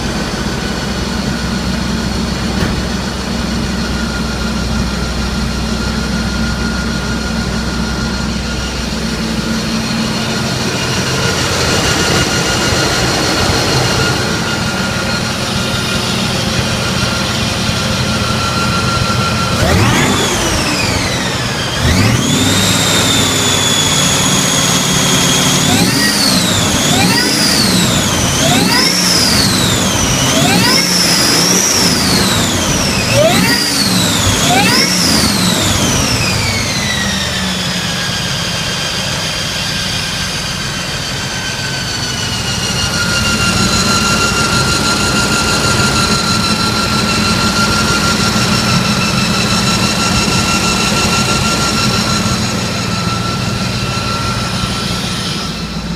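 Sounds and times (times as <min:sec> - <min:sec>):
engine revving: 0:00.0 - 0:55.9
high-pitched whine: 0:00.0 - 0:55.9.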